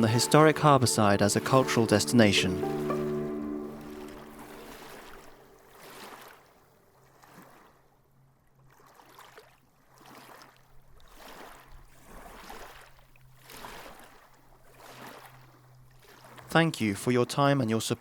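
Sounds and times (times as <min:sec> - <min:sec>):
water lapping: 0:00.0 - 0:17.4.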